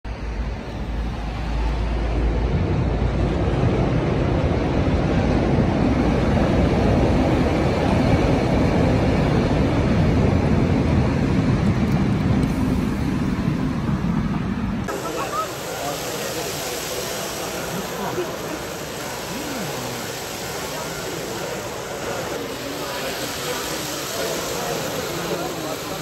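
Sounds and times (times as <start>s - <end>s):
busy hall rumbling: 0.1s - 26.0s.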